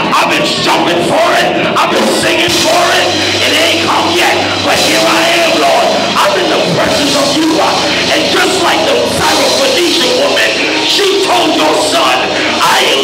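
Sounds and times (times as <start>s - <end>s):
church band praise music: 0.0s - 13.0s
drums: 0.0s - 13.0s
steady bass line: 0.0s - 13.0s.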